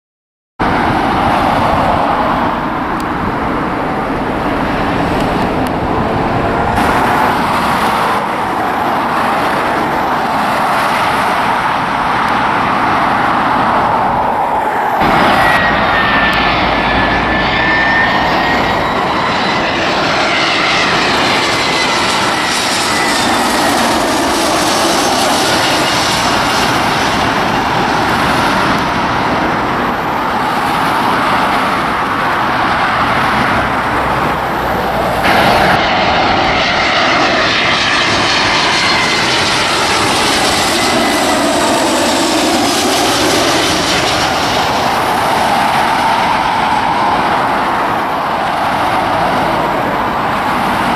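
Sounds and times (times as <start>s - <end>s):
jet airliner passing overhead: 0.6s - 50.9s.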